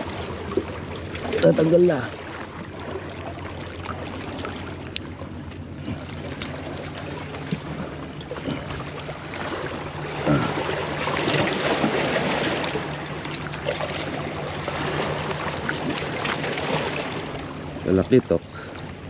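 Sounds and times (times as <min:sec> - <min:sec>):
seawater splashing between boulders: 0:00.0 - 0:19.0.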